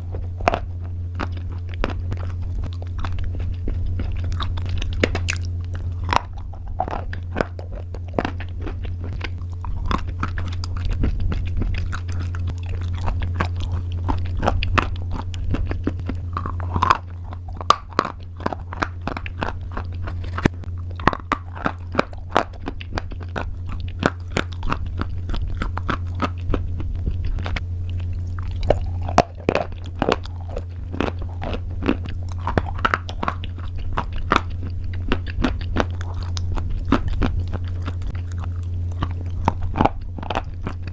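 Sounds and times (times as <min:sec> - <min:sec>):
person chewing crunchy pasta: 0:00.0 - 0:40.9
steady low hum: 0:00.0 - 0:40.9.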